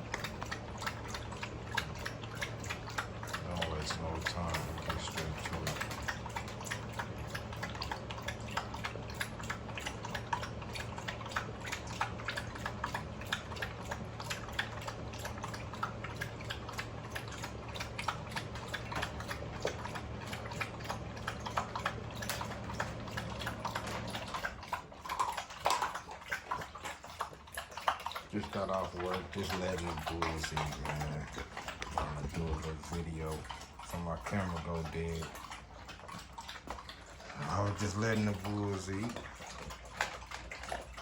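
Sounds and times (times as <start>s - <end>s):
puppies chewing and licking: 0.0s - 41.0s
steady low hum: 0.0s - 41.0s.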